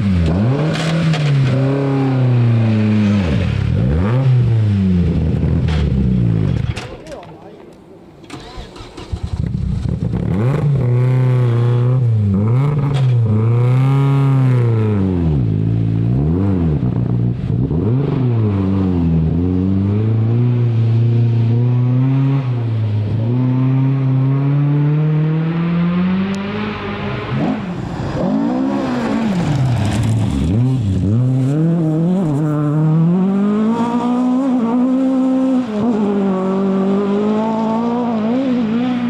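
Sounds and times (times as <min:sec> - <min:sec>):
rally car engine revving: 0:00.0 - 0:06.9, 0:08.2 - 0:39.0.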